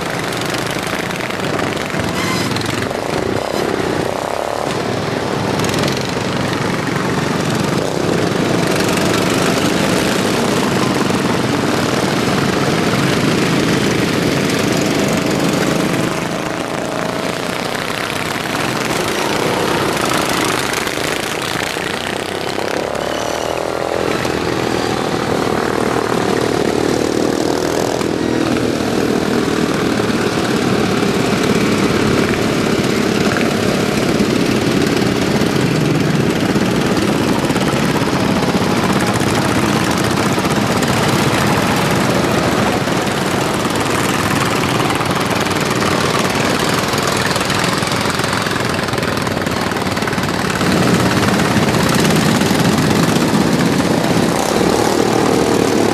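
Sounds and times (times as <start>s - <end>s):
racing lawn mower engines: 0.0s - 55.9s.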